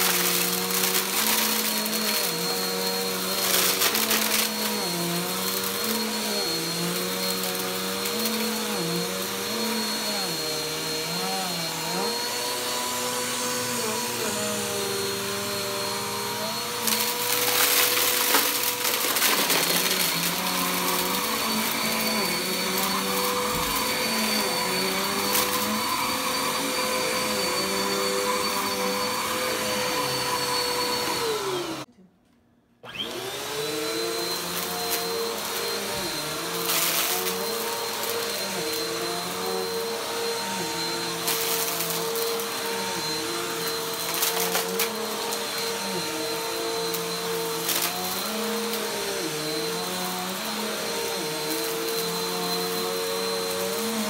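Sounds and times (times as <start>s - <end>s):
vacuum cleaner running on carpet: 0.0s - 31.9s, 32.8s - 54.0s.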